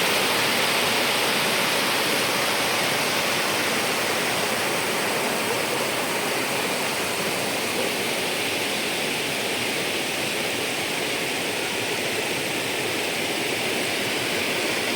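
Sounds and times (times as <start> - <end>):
water flowing: 0.0 - 14.9.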